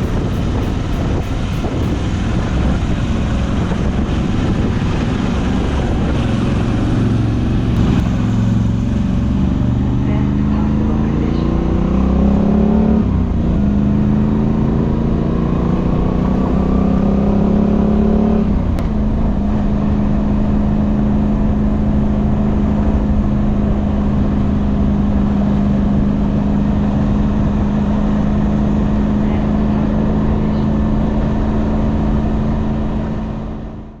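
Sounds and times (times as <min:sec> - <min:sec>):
motorcycle engine accelerating: 0:00.0 - 0:34.0
wind and road noise: 0:00.0 - 0:34.0.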